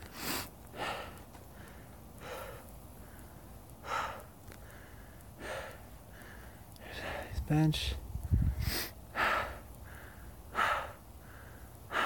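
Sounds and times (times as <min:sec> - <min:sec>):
person breathing hard: 0:00.0 - 0:07.4, 0:08.4 - 0:12.0.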